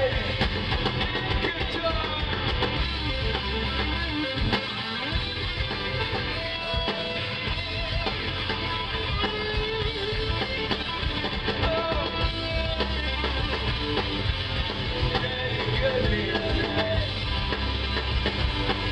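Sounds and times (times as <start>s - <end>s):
electric guitar: 0.0s - 18.9s
live rock band playing: 0.0s - 18.9s.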